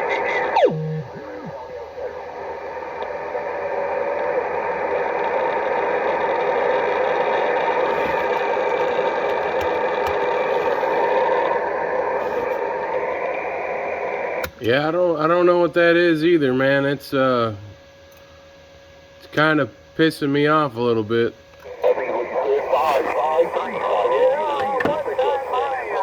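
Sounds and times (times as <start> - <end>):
radio speaker steady signal noise: 0.0 - 17.9, 19.3 - 26.0.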